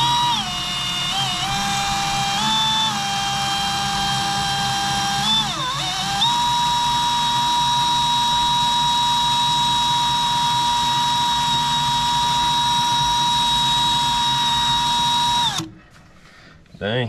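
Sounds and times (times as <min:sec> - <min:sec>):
cordless drill drilling sheet metal: 0:00.0 - 0:15.8.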